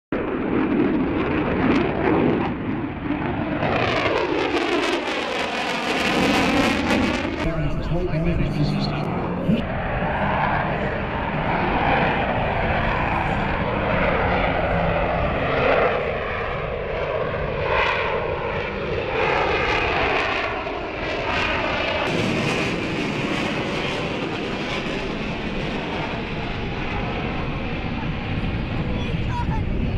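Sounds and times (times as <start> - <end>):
fighter jet engine roaring: 0.1 - 29.9
jet passing whoosh: 0.2 - 29.9.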